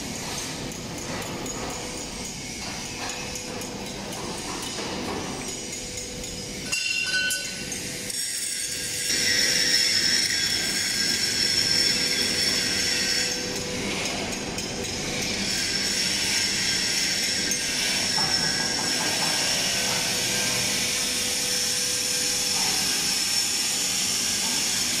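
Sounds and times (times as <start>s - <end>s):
metalwork clatter: 0.0s - 25.0s.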